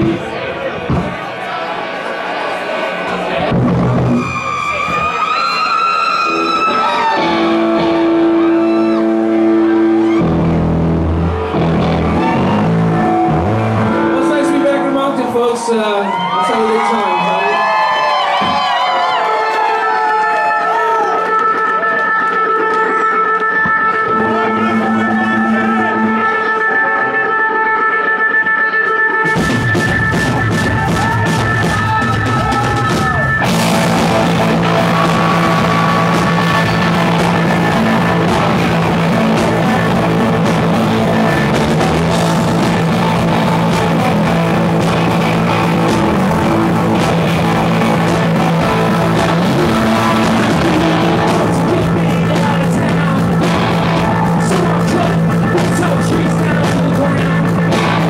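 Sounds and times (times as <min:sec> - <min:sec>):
bass guitar: 0:00.0 - 0:01.2, 0:03.3 - 0:15.5, 0:21.0 - 0:58.0
drums: 0:00.0 - 0:01.6, 0:03.1 - 0:15.4, 0:17.5 - 0:58.0
electric guitar: 0:03.3 - 0:15.2, 0:18.0 - 0:58.0.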